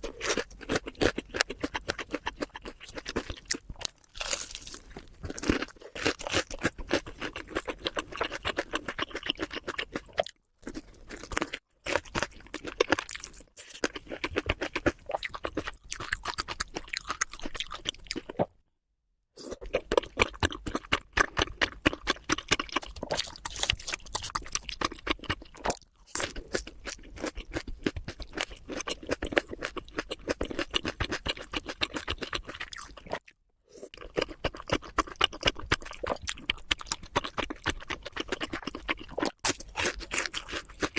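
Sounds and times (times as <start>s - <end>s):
crunching and chewing food: 0.0s - 18.6s, 19.4s - 40.9s.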